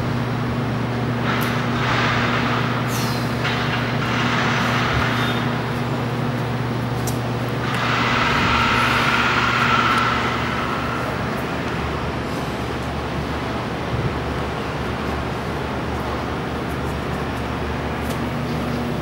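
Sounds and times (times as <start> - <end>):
low urban mechanical hum: 0.0 - 19.0.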